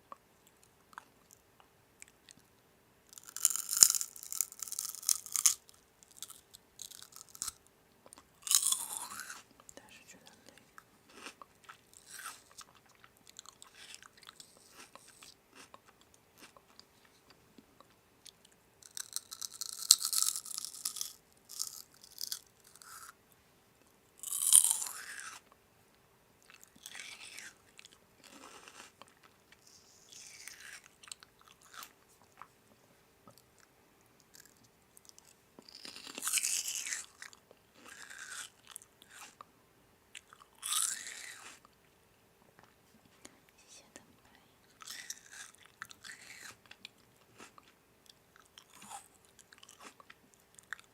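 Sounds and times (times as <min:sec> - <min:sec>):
crunchy food being chewed: 0:03.1 - 0:23.2, 0:24.2 - 0:25.6, 0:26.4 - 0:32.6, 0:33.3 - 0:39.5, 0:40.1 - 0:42.0, 0:44.7 - 0:50.9.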